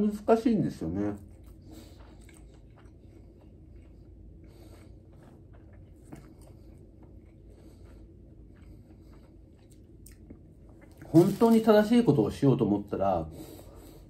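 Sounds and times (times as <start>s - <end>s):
person chewing quietly: 0.7s - 12.2s.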